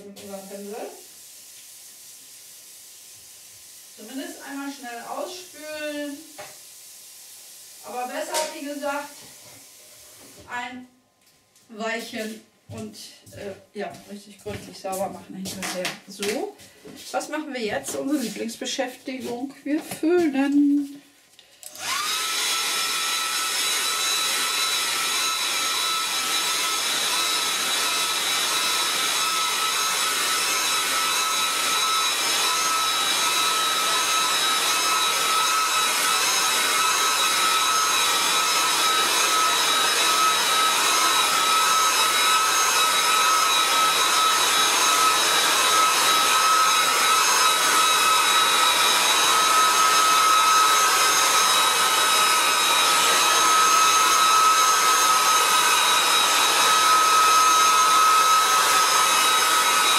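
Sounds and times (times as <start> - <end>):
hair dryer running: 0.0 - 1.4, 2.4 - 10.7, 12.2 - 18.5, 21.6 - 59.9.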